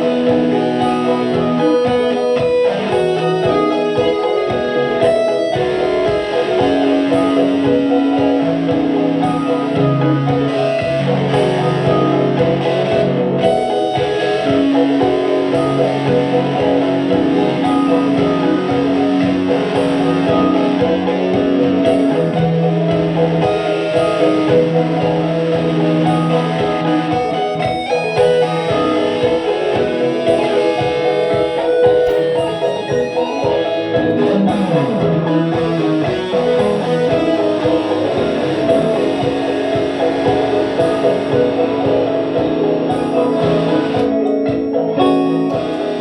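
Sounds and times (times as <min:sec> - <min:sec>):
layered electric guitar music: 0:00.0 - 0:46.0.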